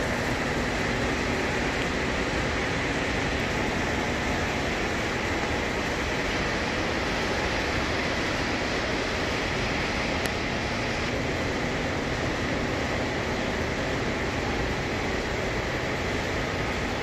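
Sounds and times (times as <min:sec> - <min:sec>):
repair shop background noise: 0:00.0 - 0:17.0.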